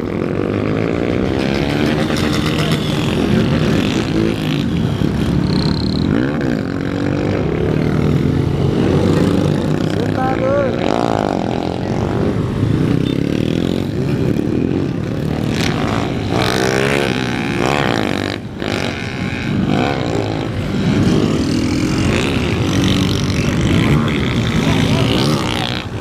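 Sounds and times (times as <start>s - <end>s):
motorcycles revving: 0.0s - 26.0s.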